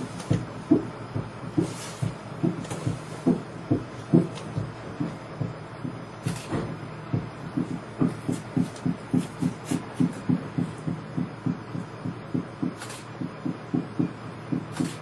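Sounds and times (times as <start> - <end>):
low electronic pulse: 0.0 - 15.0.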